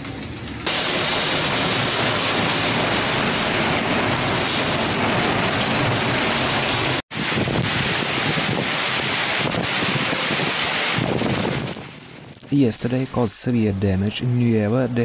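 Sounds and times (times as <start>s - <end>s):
torrential rain pouring: 0.0s - 13.8s.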